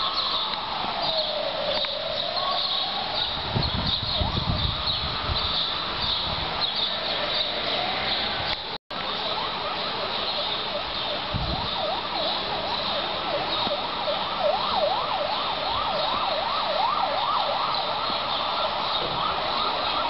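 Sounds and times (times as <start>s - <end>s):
emergency siren yelping: 0.0s - 6.0s, 8.9s - 20.0s.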